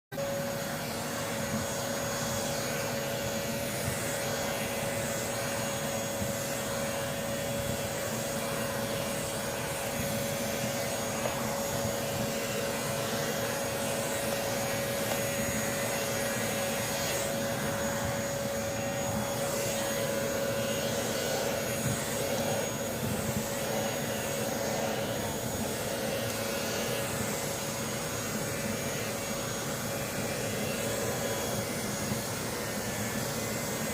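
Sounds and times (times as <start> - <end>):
hair clipper with vacuum suction: 0.2 - 33.9.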